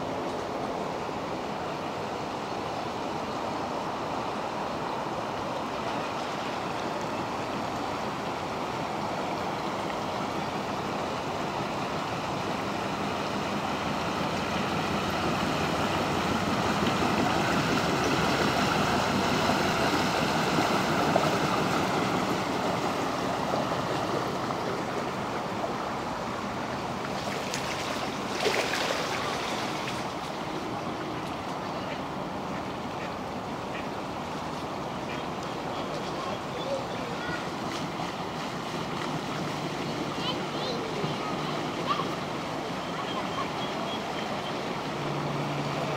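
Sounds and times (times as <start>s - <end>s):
water rushing from boat wash: 0.0s - 45.9s.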